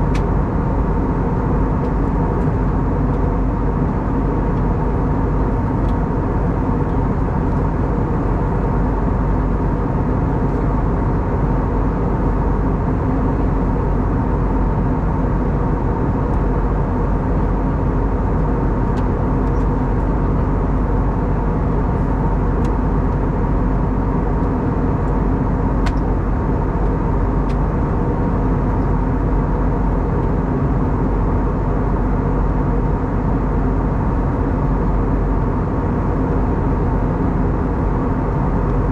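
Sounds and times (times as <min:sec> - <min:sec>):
airplane cabin airflow rush: 0:00.0 - 0:38.9
steady hum tones: 0:00.0 - 0:38.9.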